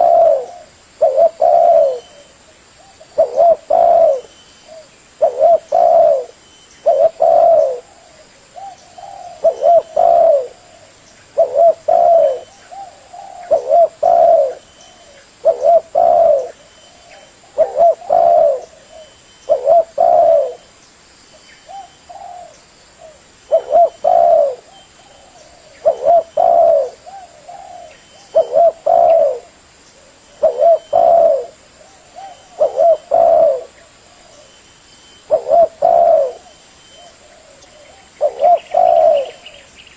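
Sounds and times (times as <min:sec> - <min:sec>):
dove cooing: 0:00.0 - 0:20.7, 0:21.7 - 0:39.7.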